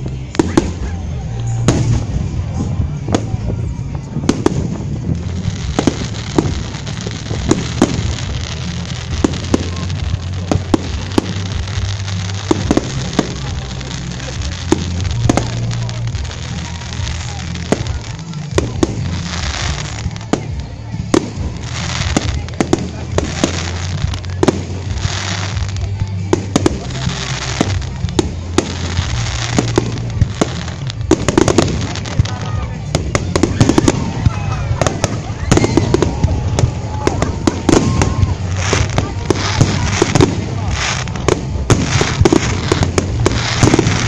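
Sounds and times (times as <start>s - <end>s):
fireworks bursting with sharp bangs: 0.0s - 44.0s
fireworks hissing: 0.0s - 44.0s.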